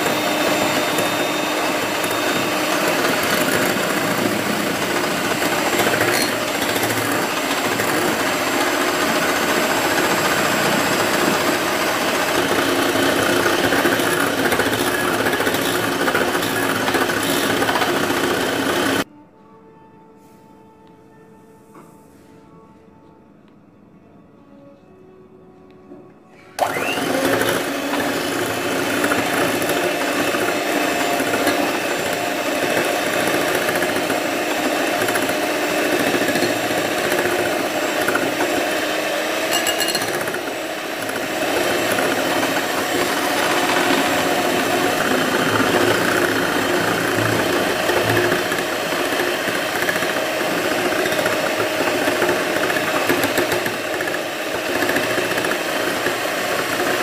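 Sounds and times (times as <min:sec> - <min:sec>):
electric hand mixer whirring: 0:00.0 - 0:19.1, 0:26.6 - 0:57.0.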